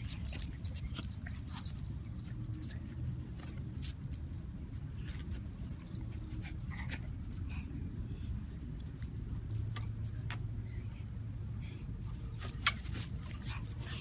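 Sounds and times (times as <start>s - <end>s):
leash clips and tags jingling: 0.0s - 7.8s, 8.4s - 10.5s, 12.4s - 14.0s.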